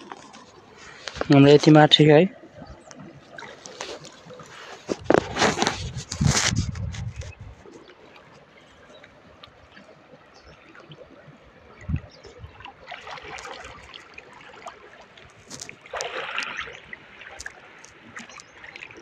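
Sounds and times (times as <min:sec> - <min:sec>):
water splashing from wading: 0:00.0 - 0:19.0.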